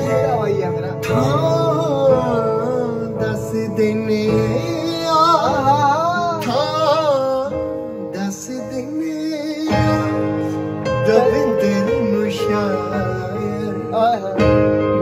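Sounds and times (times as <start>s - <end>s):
instrumental backing of held tones: 0.0s - 15.0s
man singing ornamented melody: 0.0s - 15.0s.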